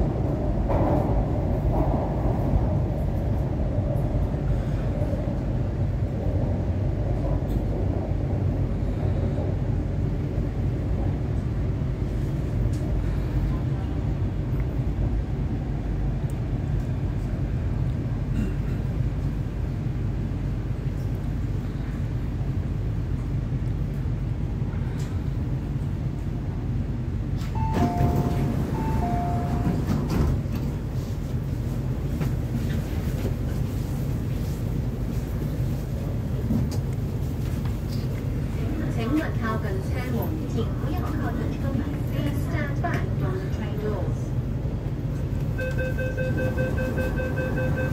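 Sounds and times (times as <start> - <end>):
train rumbling from inside: 0.0 - 47.9.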